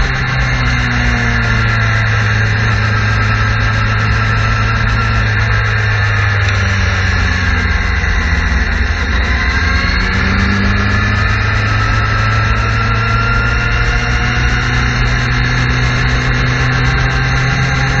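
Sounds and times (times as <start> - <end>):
motorcycle engine cruising: 0.0 - 18.0.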